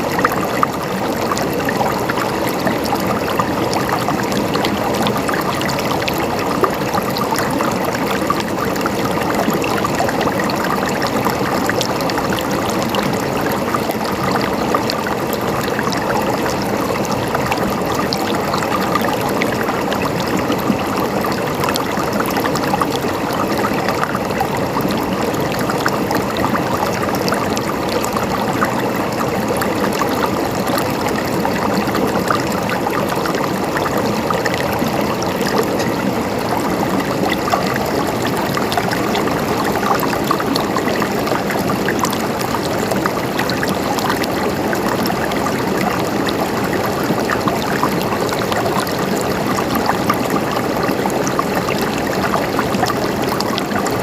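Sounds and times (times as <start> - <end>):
stream water gurgling: 0.0 - 54.0.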